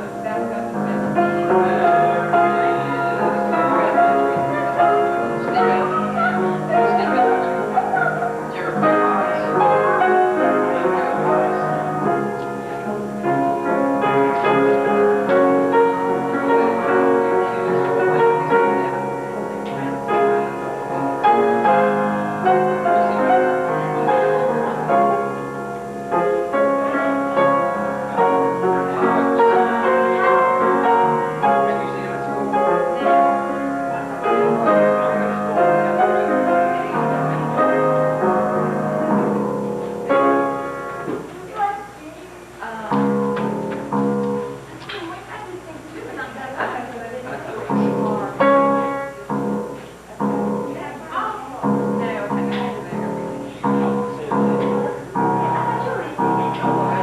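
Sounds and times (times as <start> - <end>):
slow piano music: 0.0 - 45.3, 47.4 - 57.0.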